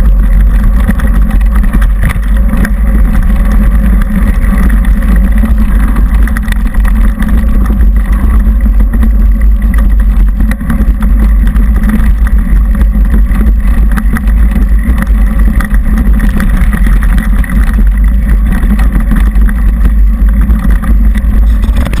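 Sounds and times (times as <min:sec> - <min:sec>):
low rumble of bike riding: 0:00.0 - 0:22.0
small knocks and rattles: 0:00.0 - 0:22.0.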